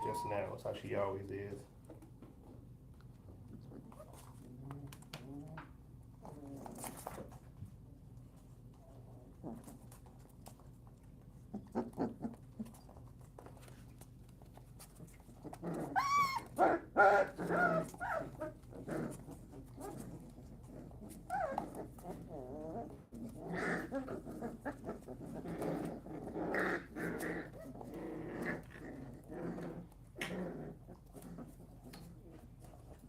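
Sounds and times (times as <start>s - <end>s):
puppies growling and yapping: 0.0s - 0.6s, 3.4s - 7.5s, 8.9s - 33.0s.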